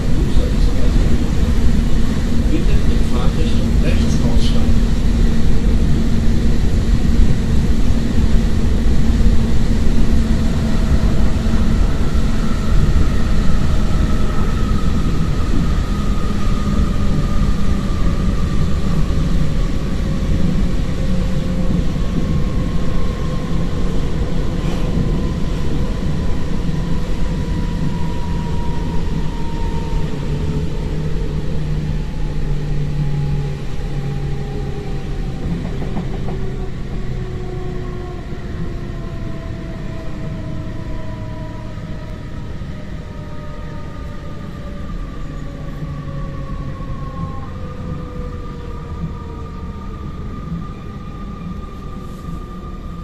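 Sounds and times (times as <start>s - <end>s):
train wheel and wind rumble: 0.0s - 53.0s.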